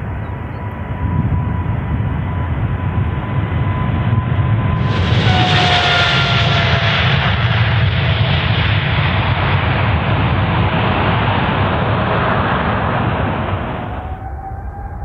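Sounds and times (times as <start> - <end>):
jet engine roar with whining tones: 0.0 - 15.0.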